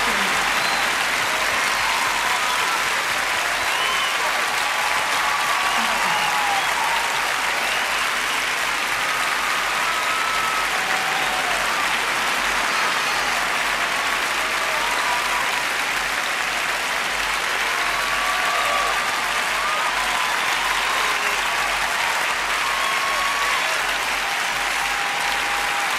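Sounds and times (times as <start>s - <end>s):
audience applauding: 0.0s - 25.9s.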